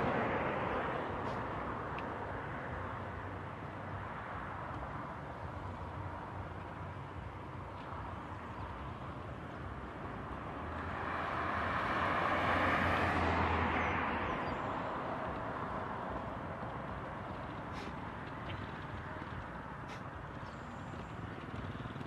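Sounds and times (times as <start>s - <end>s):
distant jet engines: 0.0s - 22.0s.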